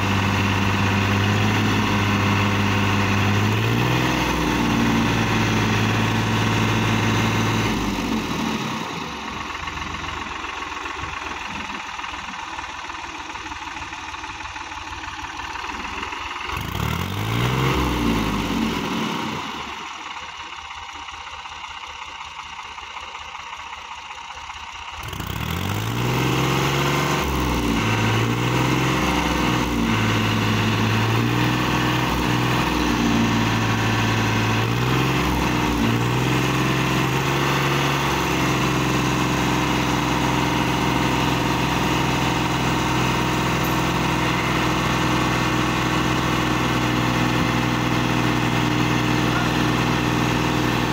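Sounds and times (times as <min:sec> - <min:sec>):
tractor engine revving: 0:00.0 - 0:50.9.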